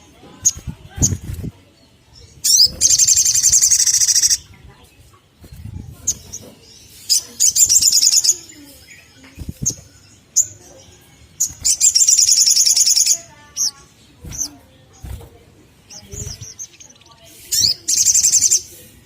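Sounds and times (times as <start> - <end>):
bird chirping and trilling: 0.4 - 18.9.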